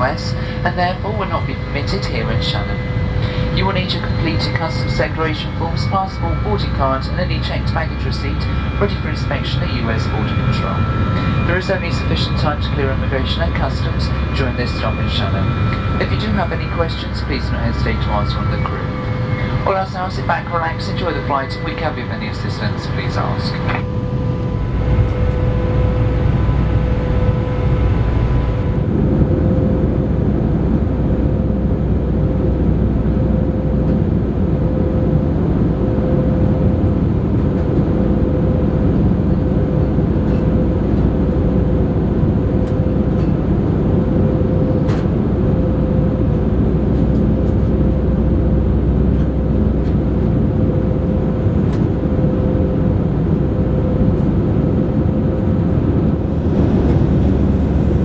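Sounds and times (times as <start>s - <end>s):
aircraft cabin drone: 0.0s - 58.0s.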